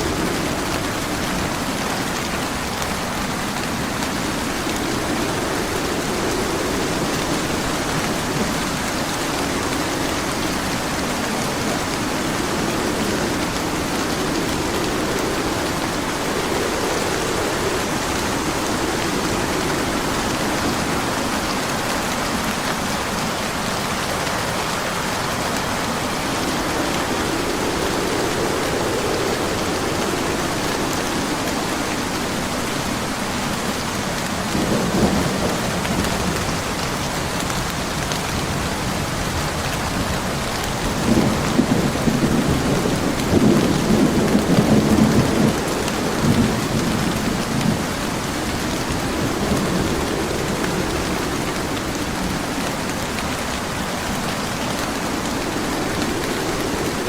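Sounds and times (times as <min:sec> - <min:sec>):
rolling thunder: 0:00.0 - 0:33.1, 0:34.2 - 0:57.0
heavy rain: 0:00.0 - 0:57.0.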